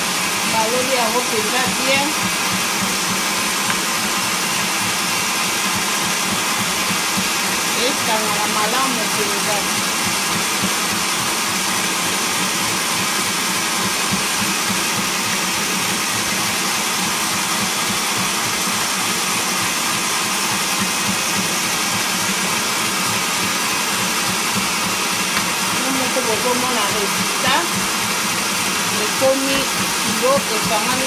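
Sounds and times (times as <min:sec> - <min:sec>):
electric hand mixer running: 0:00.0 - 0:31.0.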